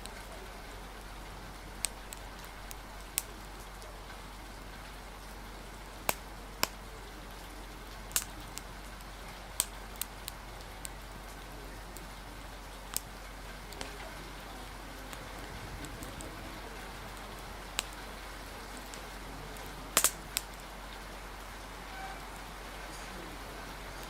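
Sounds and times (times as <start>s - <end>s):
wood fire popping and crackling: 0.0s - 22.7s
rain hissing: 0.0s - 24.0s.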